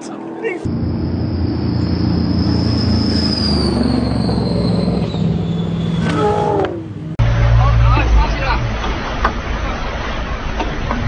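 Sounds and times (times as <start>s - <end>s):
high engine whine: 0.0s - 11.0s.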